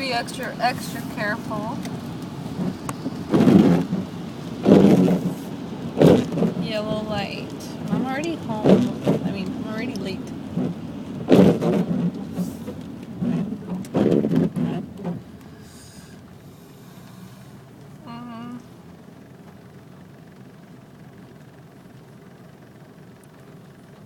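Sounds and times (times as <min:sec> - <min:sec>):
car cabin noise on wet road: 0:00.0 - 0:24.0.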